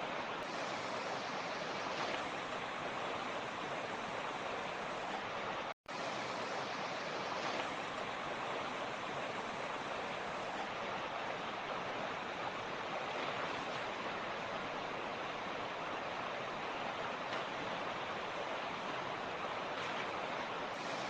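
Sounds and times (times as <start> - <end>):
mountain creek rushing: 0.0 - 21.0.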